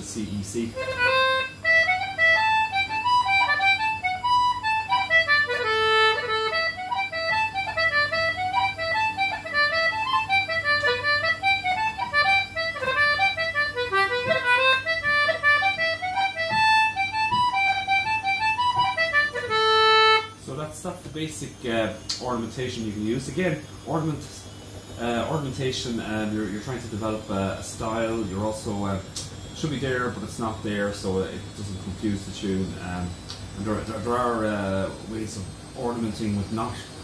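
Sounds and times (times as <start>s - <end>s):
concertina playing a reel: 0.0s - 37.0s.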